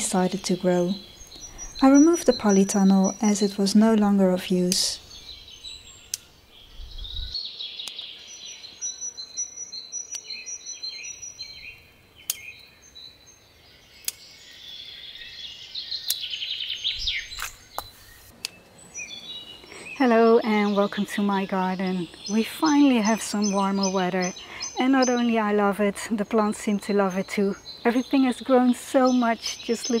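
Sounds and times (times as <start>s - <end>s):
birds singing and chirping: 0.0s - 30.0s.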